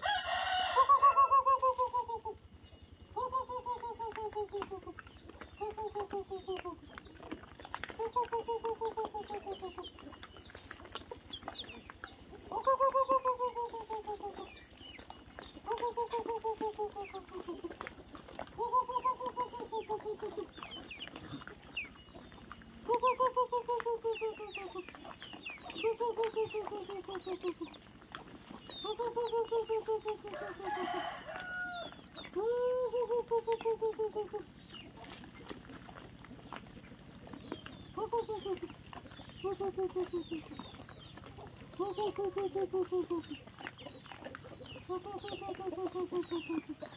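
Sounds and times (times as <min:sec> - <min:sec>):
chicken calling: 0:00.0 - 0:46.9.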